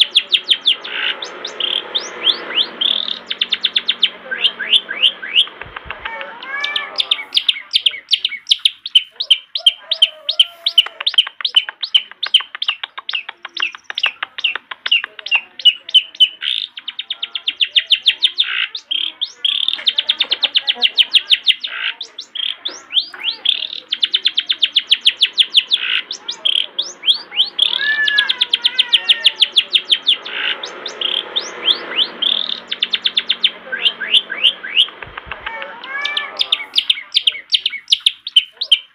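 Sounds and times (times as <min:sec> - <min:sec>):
bird singing: 0:00.0 - 0:38.9.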